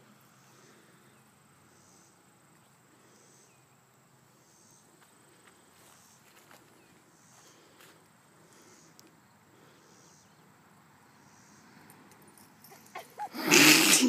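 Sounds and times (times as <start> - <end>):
soft insect chirp: 0.0 - 13.3.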